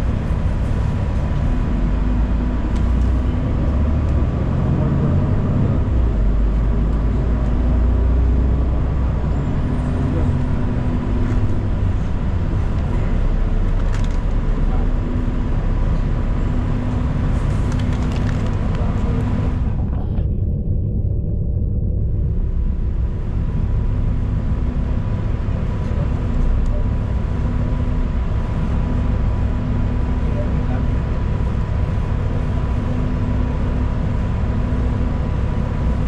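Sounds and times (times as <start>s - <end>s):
bus engine and road rumble: 0.0s - 36.0s.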